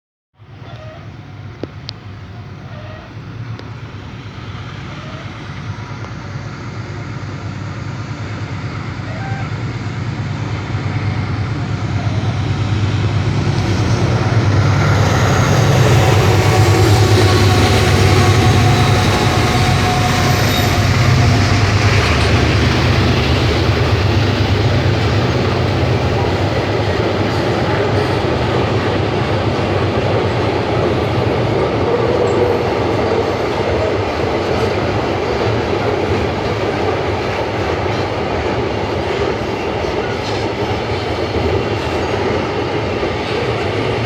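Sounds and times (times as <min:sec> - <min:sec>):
train rail rumble: 0:00.4 - 0:44.0.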